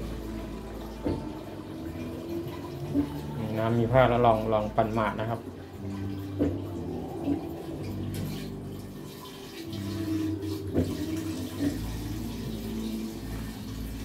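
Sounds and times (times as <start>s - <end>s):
washing machine hum: 0.0s - 14.0s
water draining through hose: 0.0s - 14.0s.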